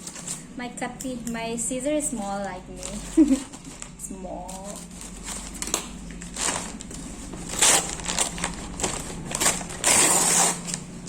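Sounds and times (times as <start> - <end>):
packaging crinkling and rustling: 0.0 - 0.5, 2.4 - 11.0.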